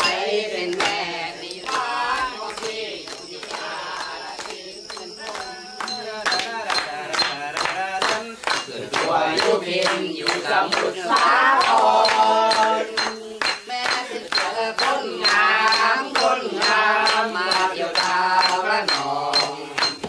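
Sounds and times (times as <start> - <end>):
hand claps: 0.0 - 20.0
men singing together: 0.0 - 20.0.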